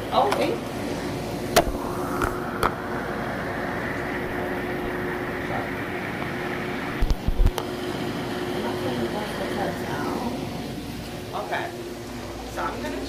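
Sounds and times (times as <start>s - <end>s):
churning water rushing: 0.0s - 13.0s
pump humming: 0.0s - 13.0s.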